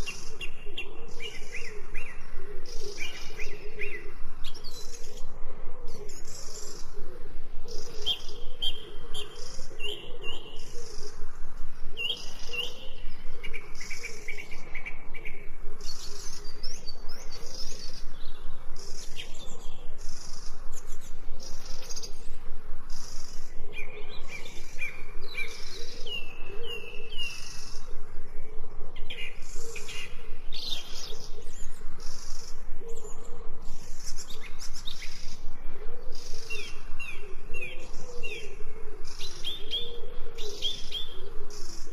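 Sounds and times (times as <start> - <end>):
birds chirping and calling: 0.0 - 41.9.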